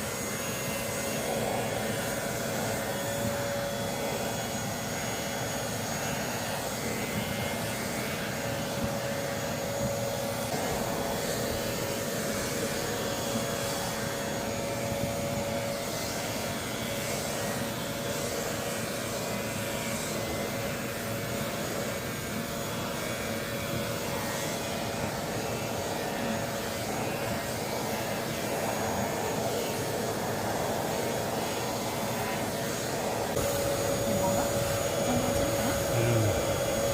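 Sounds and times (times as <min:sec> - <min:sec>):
vacuum motor whirring: 0:00.0 - 0:36.9.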